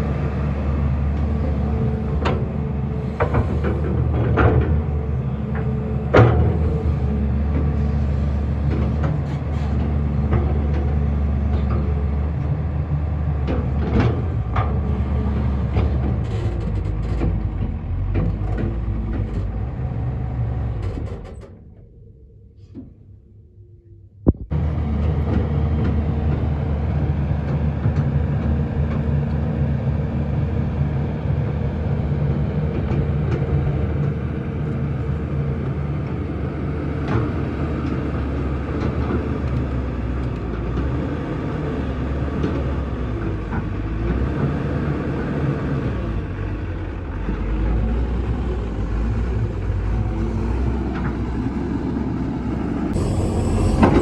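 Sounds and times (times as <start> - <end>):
heavy diesel engines rumbling: 0.0 - 23.2, 24.3 - 54.0.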